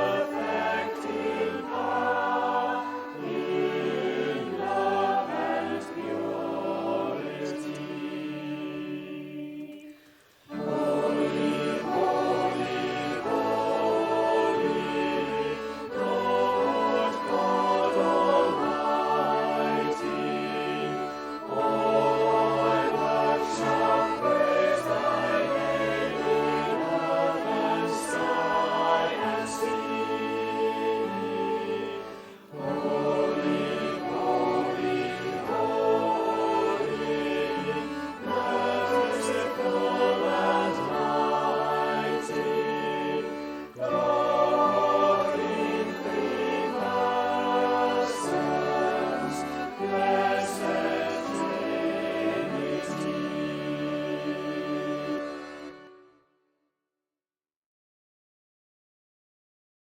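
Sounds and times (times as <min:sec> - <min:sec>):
choir singing: 0:00.0 - 0:56.2
instrumental accompaniment: 0:00.0 - 0:56.2.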